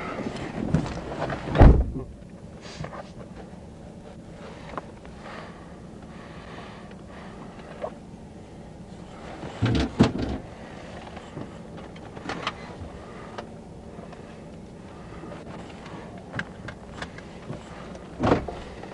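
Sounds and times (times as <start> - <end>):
vehicle engine idling: 0.0 - 18.9.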